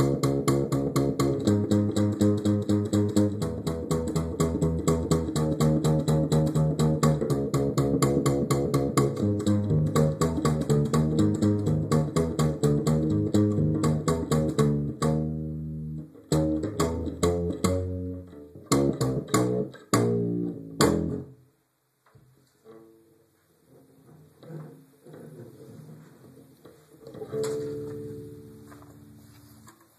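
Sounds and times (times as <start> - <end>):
guitar and bass music: 0.0 - 21.4, 27.1 - 29.7.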